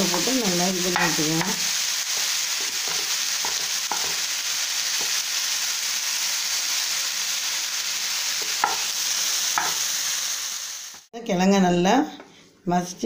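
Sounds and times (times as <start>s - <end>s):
food sizzling in oil: 0.0s - 11.1s.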